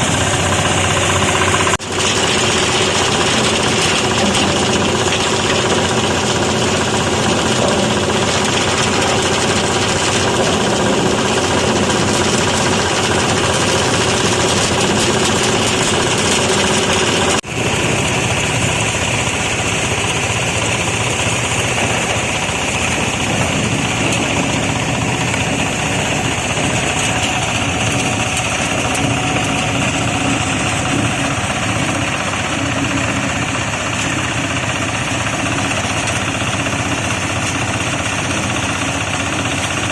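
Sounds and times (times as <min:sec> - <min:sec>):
machine running noisily: 0:00.0 - 0:39.9.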